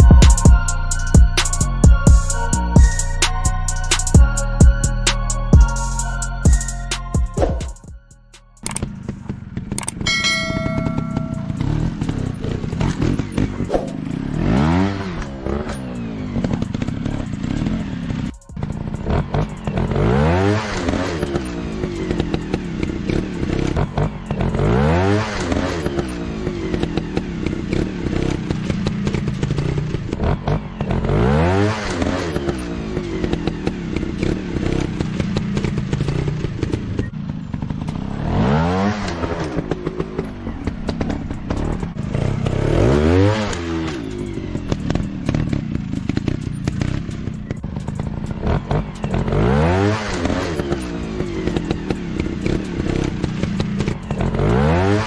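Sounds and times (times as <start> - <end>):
dirt bike engine revving: 8.6 - 55.0.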